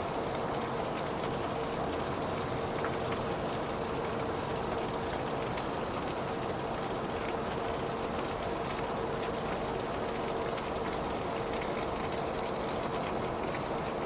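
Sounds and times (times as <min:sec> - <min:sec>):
rain pattering: 0:00.1 - 0:14.0.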